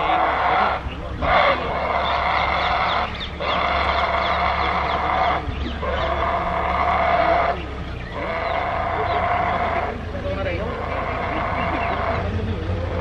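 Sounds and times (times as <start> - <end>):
wild boar squealing: 0.0 - 10.0, 10.6 - 12.3.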